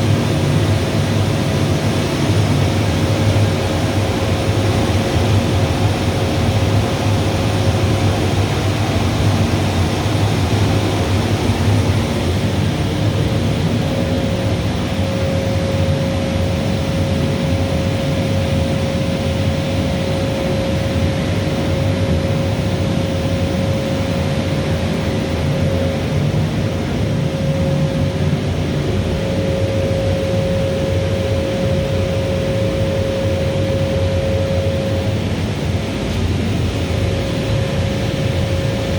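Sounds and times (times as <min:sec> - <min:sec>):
constant whining tone: 0:00.0 - 0:38.9
steam boiler burner rumble: 0:00.0 - 0:38.9.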